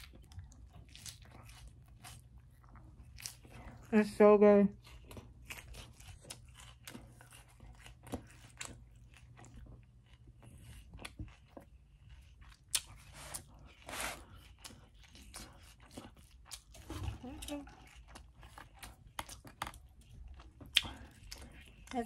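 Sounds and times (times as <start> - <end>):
person chewing crunchy food: 0.0 - 4.0, 4.7 - 22.0.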